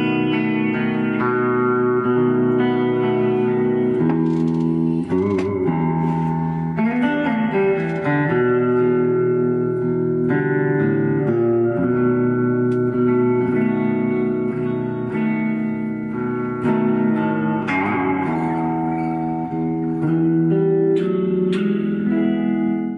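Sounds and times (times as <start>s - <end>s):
electric guitar improvisation: 0.0s - 22.9s.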